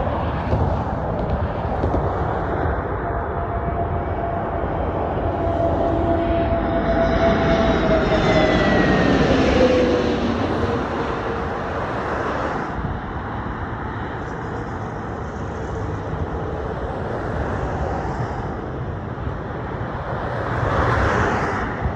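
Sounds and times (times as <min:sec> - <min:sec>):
jet aircraft landing rumble: 0:00.0 - 0:21.9
jet engine whine: 0:00.0 - 0:21.9.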